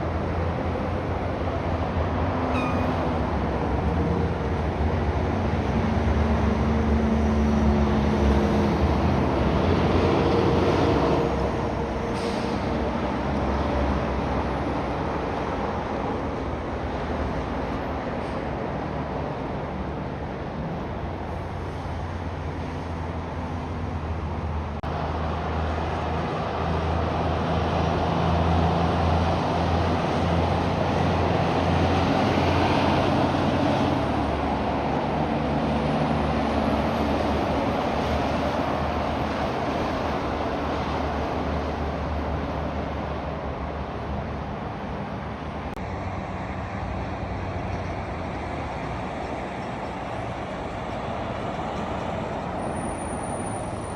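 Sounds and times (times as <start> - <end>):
truck diesel engine: 0.0 - 53.9
tyre and road noise: 0.0 - 53.9.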